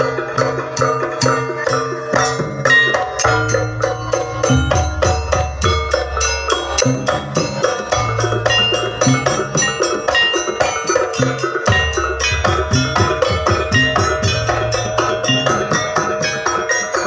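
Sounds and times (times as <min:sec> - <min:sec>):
metal mallet strikes: 0:00.0 - 0:17.0.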